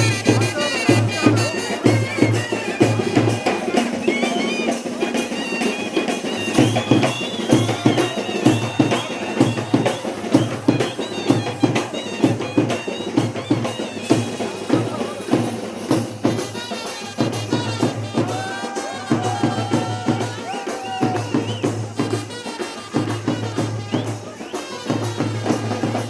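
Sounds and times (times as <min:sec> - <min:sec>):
steady drum beat: 0:00.0 - 0:26.0.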